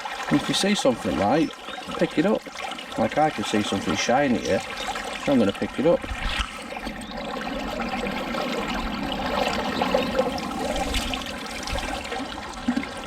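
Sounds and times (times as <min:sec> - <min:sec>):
river water splashing: 0:00.0 - 0:13.0.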